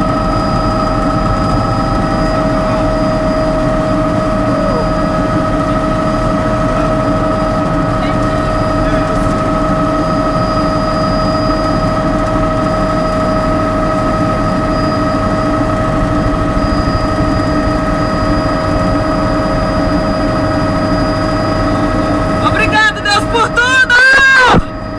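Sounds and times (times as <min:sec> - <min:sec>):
helicopter engine and rotor drone: 0:00.0 - 0:24.9.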